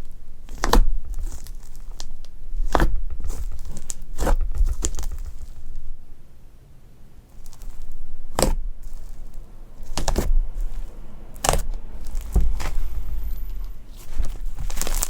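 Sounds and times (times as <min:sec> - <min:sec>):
slime crackling when squished: 0:00.0 - 0:06.2, 0:07.3 - 0:15.0.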